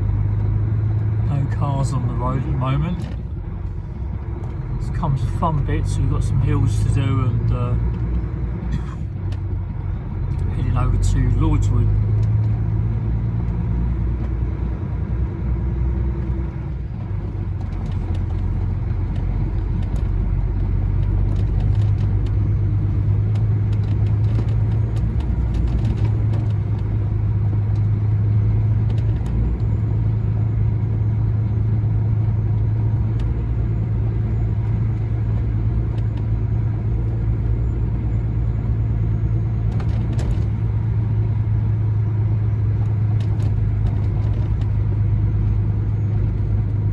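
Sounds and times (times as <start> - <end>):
road noise: 0.0 - 46.9
truck diesel engine droning: 0.0 - 46.9.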